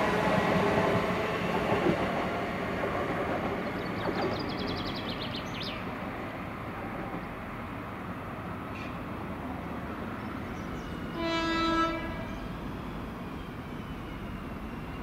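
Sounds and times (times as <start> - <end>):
train running past: 0.0 - 15.0.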